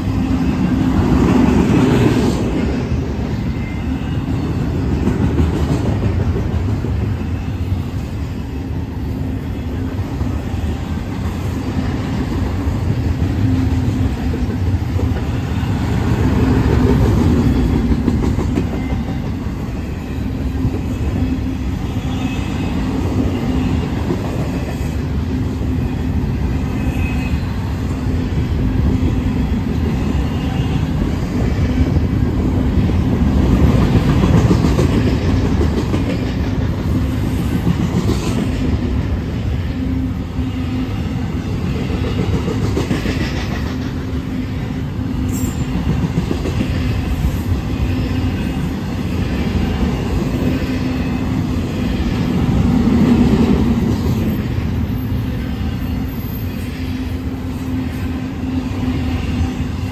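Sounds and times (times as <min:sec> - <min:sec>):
train wheels clattering on rails: 0:00.0 - 0:07.4, 0:09.7 - 0:21.5, 0:22.5 - 0:39.4, 0:41.3 - 0:55.1.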